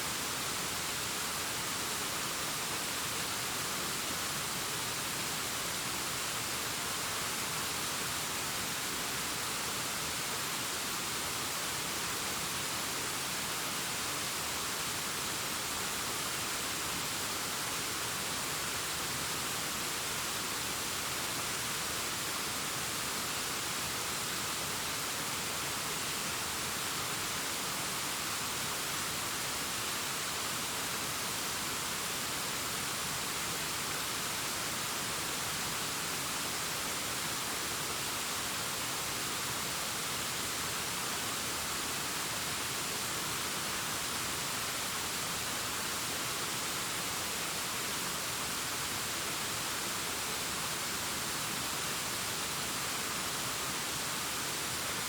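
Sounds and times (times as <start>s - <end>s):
distant waterfall rushing: 0.0s - 55.0s.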